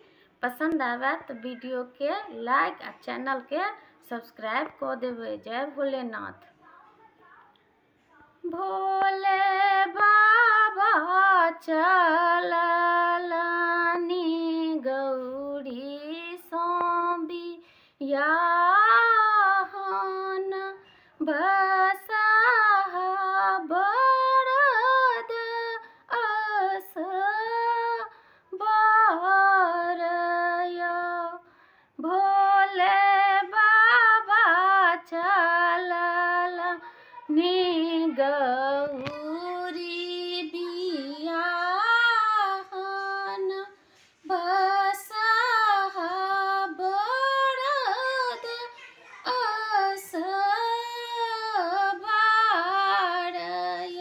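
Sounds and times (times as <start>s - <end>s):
woman singing unaccompanied: 0.4s - 6.5s, 8.4s - 54.0s.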